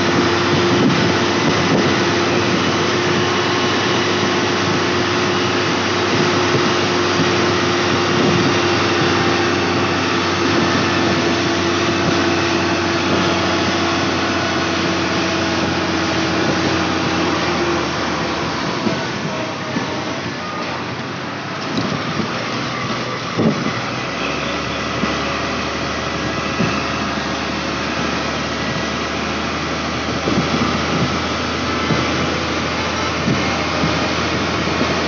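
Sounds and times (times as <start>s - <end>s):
diesel engine running: 0.0s - 35.0s
steady whine: 0.0s - 35.0s.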